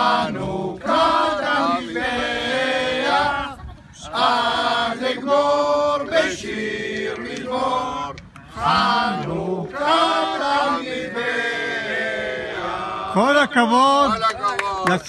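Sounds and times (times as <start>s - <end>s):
men and children singing: 0.0s - 13.1s.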